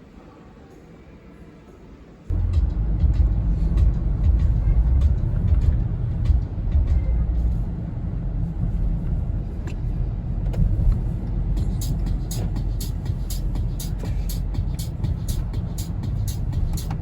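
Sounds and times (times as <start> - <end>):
vehicle rumble from inside: 2.3 - 17.0.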